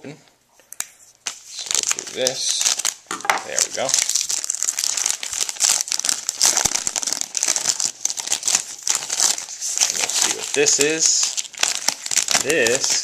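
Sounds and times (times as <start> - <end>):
wrapper crinkling and rustling: 1.2 - 13.0
wrapper tearing: 1.3 - 13.0.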